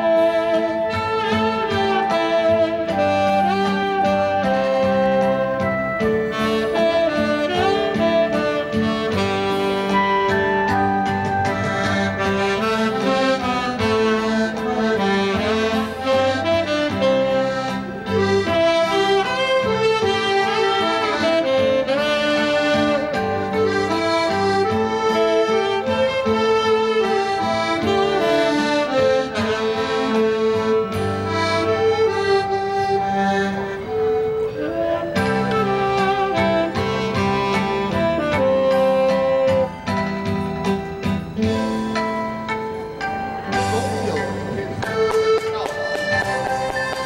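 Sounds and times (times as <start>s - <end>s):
accordion playing: 0.0s - 47.0s
saxophone melody: 0.0s - 47.0s.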